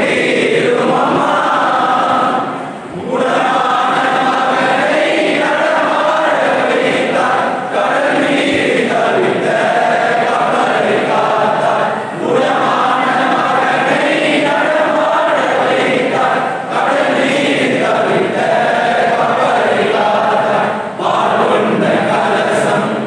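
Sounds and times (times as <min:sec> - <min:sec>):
group singing a hymn: 0:00.0 - 0:23.0.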